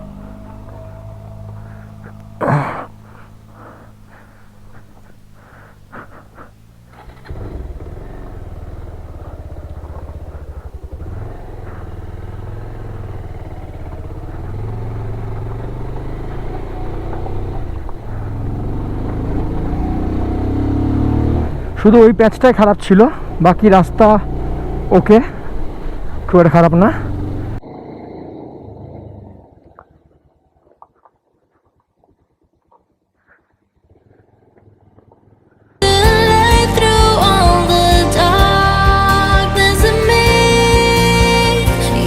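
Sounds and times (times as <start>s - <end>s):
motorcycle engine: 0.0s - 30.3s, 34.0s - 42.0s.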